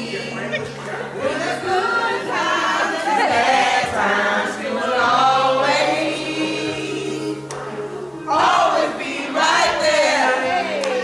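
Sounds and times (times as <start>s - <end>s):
music backing track: 0.0s - 11.0s
voices singing along: 0.0s - 11.0s.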